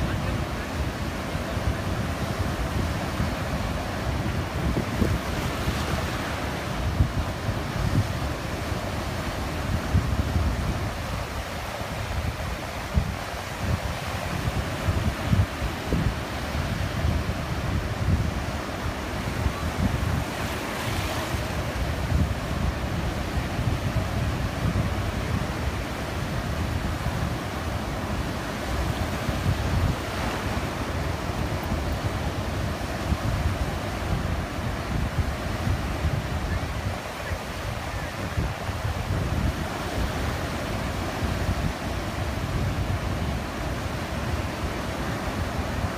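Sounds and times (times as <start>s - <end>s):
ocean surf washing in: 0.0s - 45.9s
wind buffeting microphone: 0.0s - 45.9s.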